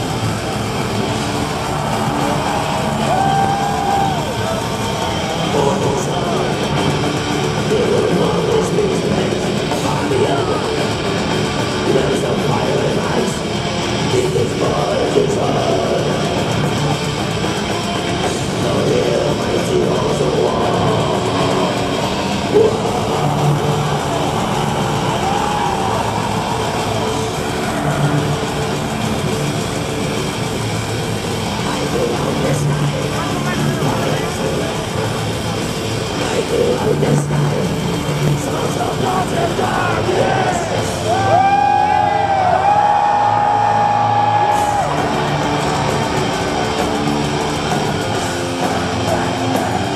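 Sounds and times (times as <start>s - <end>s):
crowd yelling and cheering: 0.0s - 49.9s
live metal band playing: 0.0s - 49.9s
metal music long sliding note: 0.0s - 49.9s.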